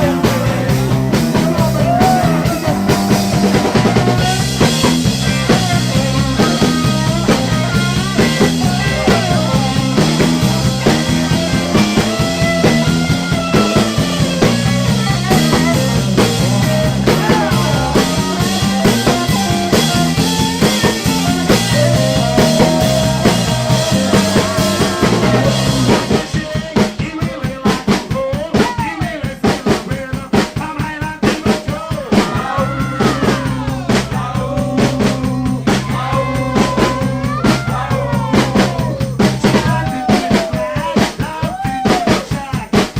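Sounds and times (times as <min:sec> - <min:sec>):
lead guitar line: 0:00.0 - 0:26.4, 0:32.1 - 0:40.4
electric bass: 0:00.0 - 0:26.5, 0:32.0 - 0:40.2
drum kit: 0:00.0 - 0:42.9
rock and roll band playing: 0:00.0 - 0:42.9.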